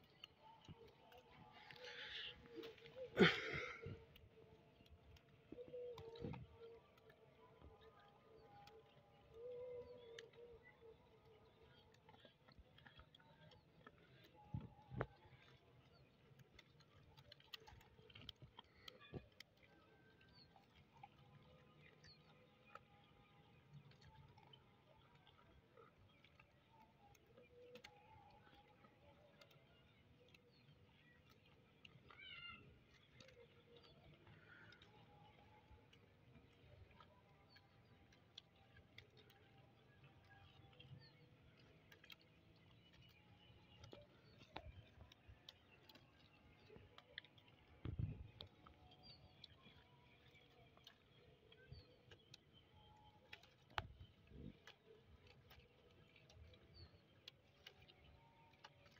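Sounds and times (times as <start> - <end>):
faint clicks: 0.0 - 58.9.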